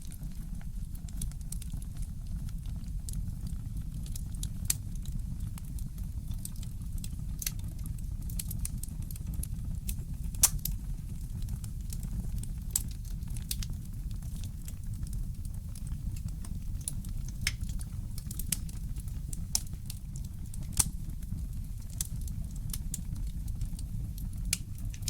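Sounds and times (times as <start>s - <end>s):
low fire rumble: 0.0s - 25.0s
wood fire crackling: 0.0s - 25.0s.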